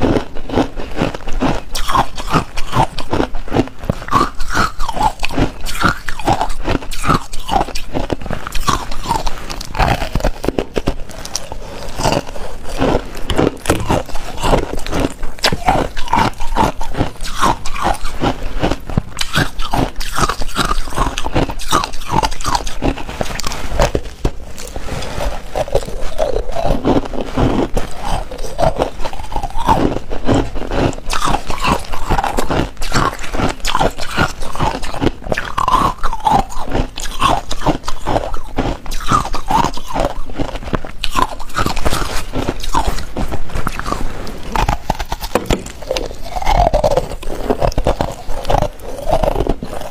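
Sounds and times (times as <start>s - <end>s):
ice crunching between teeth: 0.0s - 49.9s.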